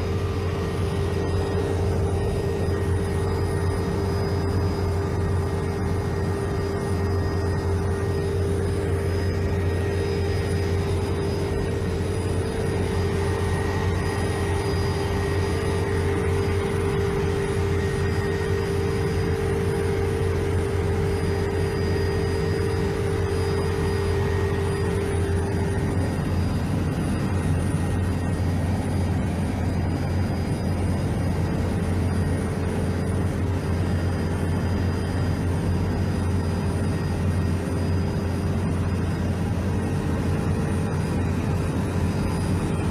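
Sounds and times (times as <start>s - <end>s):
helicopter cabin drone: 0.0s - 42.9s.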